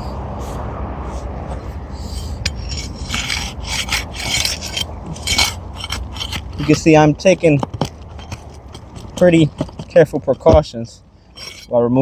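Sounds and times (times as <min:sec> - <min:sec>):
pry bar scraping shingles: 0:02.2 - 0:12.0.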